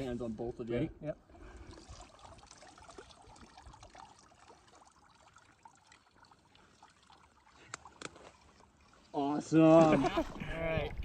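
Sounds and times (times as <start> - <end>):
faint trickling water: 0.0 - 11.0.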